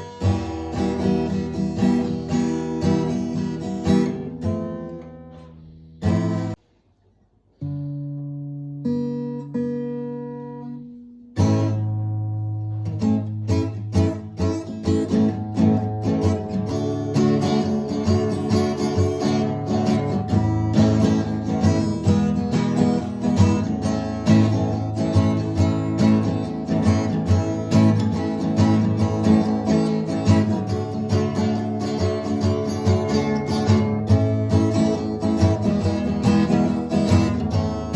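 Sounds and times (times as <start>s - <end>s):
acoustic guitar strumming: 0.0s - 6.7s, 7.6s - 37.9s.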